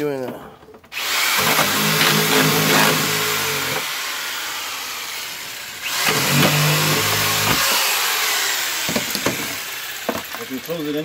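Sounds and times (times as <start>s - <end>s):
electric power tool motor running: 1.0s - 11.0s.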